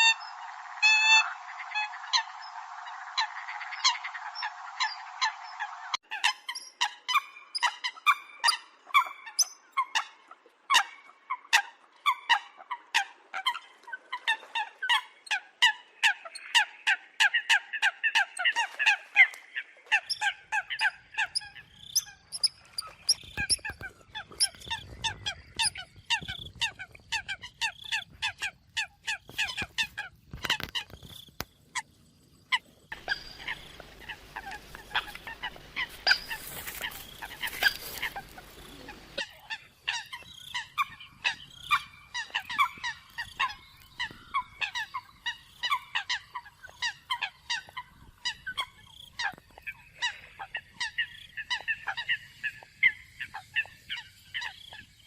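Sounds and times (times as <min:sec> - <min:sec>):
coots calling: 0:00.0 - 0:31.9, 0:32.5 - 0:55.0.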